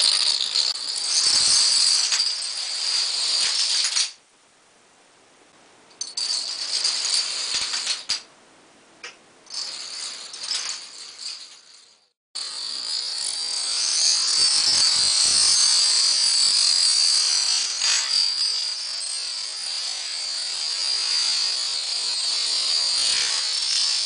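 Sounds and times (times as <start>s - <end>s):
dominoes clattering: 0.0s - 4.2s, 6.0s - 8.3s, 9.0s - 24.0s.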